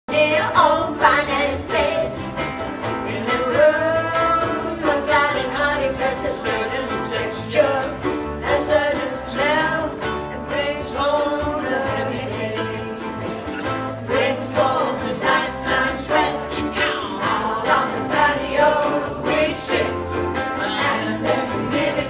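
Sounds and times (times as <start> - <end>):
person singing: 0.1 - 22.0
strummed ukuleles: 0.1 - 22.0.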